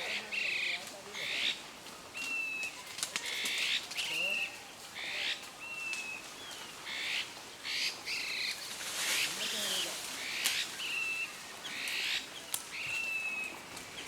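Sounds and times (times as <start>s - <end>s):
birds calling harsh notes: 0.0s - 14.0s.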